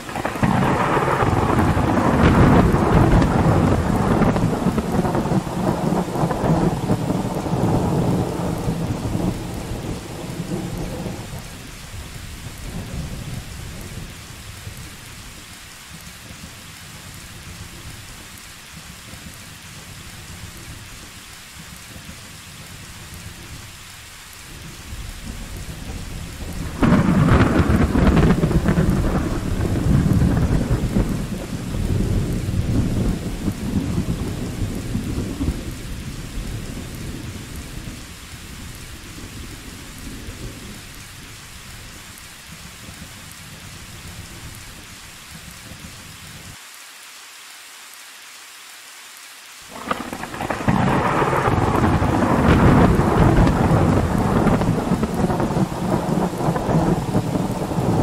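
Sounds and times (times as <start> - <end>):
thunderclap rumbling: 0.0 - 23.8, 24.4 - 46.5, 49.7 - 58.0
steady rain: 0.0 - 58.0.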